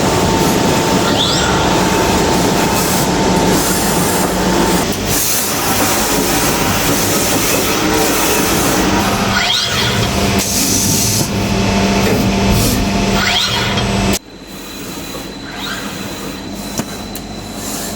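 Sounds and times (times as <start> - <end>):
machine whine: 0.0 - 17.9
machining center running: 0.0 - 17.9.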